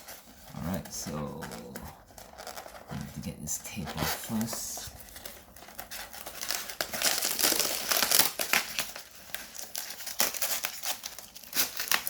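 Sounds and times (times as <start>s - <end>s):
packing tape peeled off cardboard: 0.0s - 3.0s, 4.0s - 12.0s.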